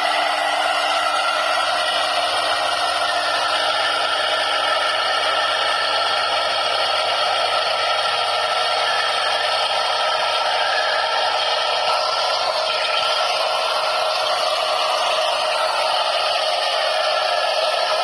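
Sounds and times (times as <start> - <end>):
bearing spinning with whirring: 0.0 - 18.0.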